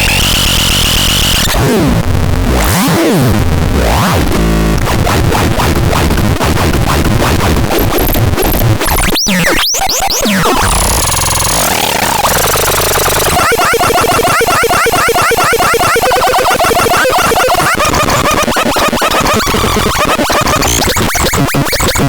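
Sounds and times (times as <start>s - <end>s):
harsh electronic noise: 0.0s - 22.0s.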